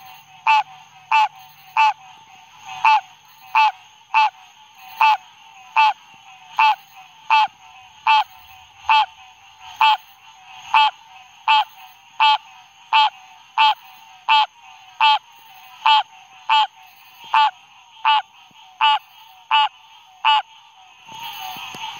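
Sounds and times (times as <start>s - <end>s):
tree frog calling: 0.0s - 21.9s.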